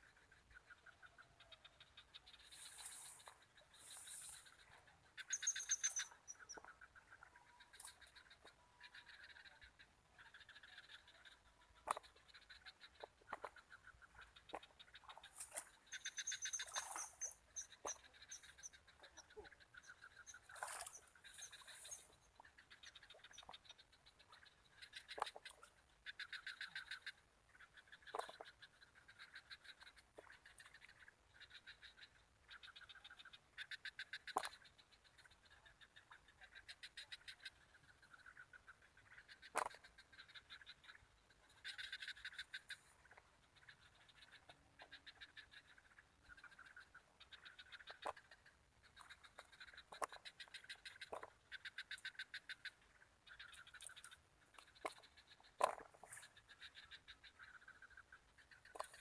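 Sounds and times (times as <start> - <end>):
small animals clicking calls: 0.0 - 59.0.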